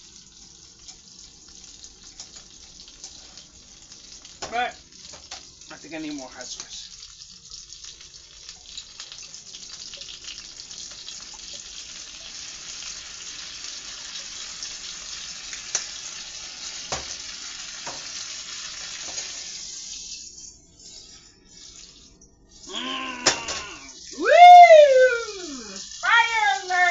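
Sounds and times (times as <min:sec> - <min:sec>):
food sizzling in a frying pan: 0:00.0 - 0:26.9.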